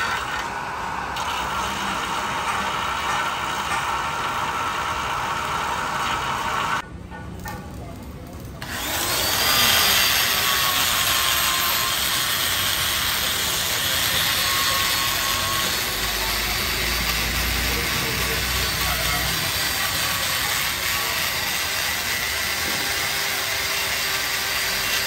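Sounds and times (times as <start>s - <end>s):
die grinder whining: 0.0s - 6.8s, 8.6s - 25.0s.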